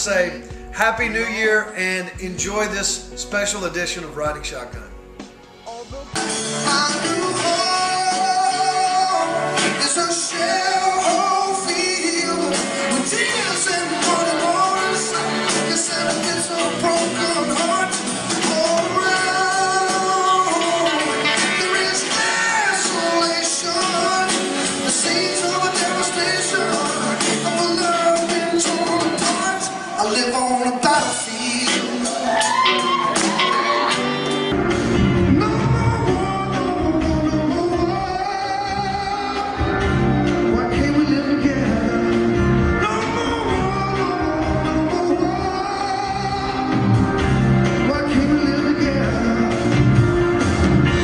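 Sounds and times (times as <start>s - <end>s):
live band music: 0.0s - 51.0s.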